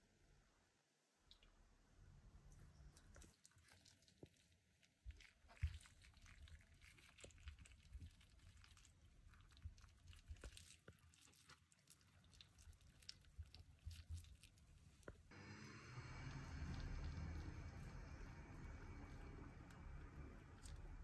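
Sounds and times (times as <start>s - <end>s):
moist squishes of handled meat: 2.6s - 15.3s, 16.2s - 21.0s.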